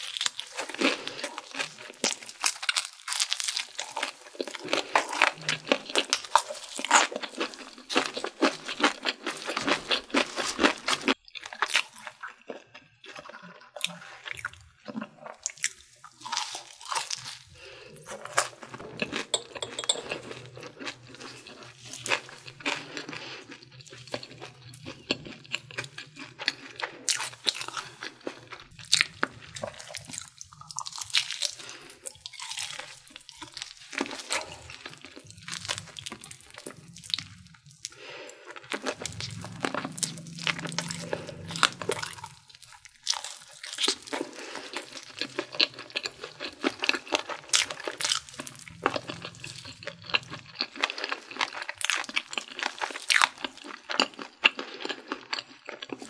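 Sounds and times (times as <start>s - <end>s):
crunchy chewing of fried chicken: 0.0s - 56.0s.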